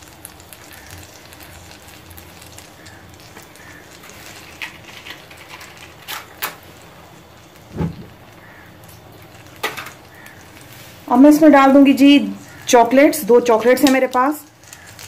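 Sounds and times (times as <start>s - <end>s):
butter sizzling in a pan: 0.0s - 15.0s.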